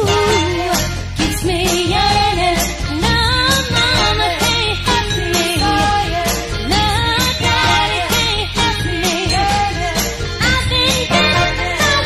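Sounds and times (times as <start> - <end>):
song with bass and drums: 0.0 - 12.0.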